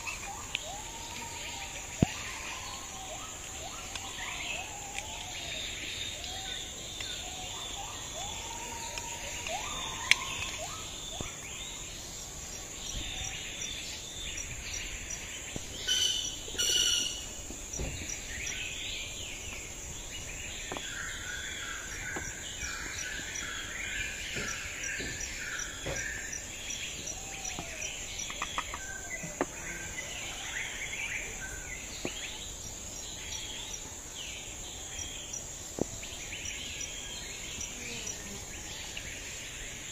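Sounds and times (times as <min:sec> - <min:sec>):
birds chirping: 0:00.0 - 0:39.9
insect trill: 0:00.0 - 0:39.9.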